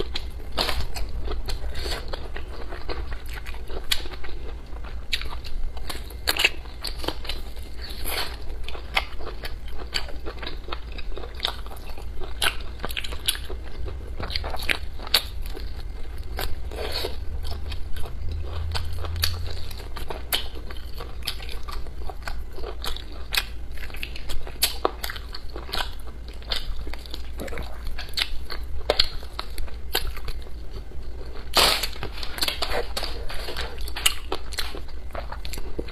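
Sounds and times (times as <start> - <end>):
person biting and chewing meat: 0.0 - 35.9.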